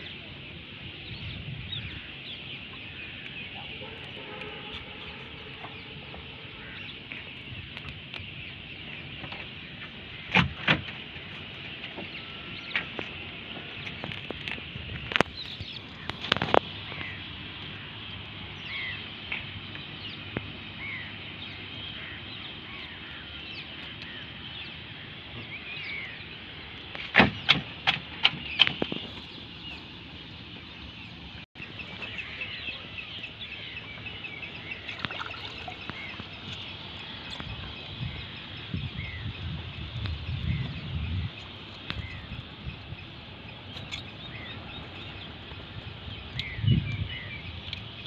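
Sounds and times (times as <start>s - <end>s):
small birds chirping: 0.0s - 48.0s
steady outdoor hiss: 0.0s - 48.0s.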